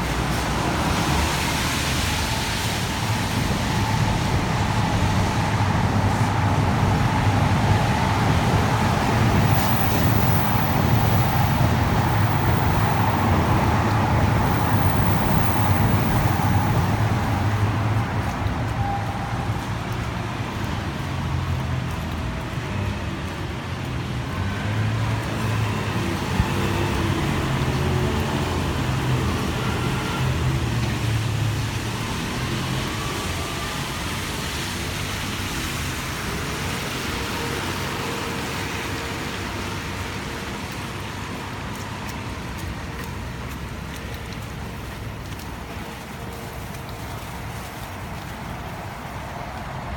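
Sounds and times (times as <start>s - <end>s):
engine and road traffic noise: 0.0s - 49.9s.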